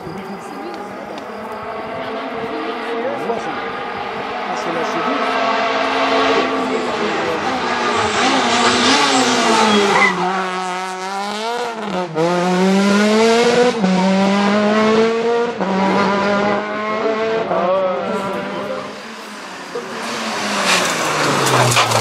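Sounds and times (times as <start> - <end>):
rally car engine accelerating: 0.0 - 22.0.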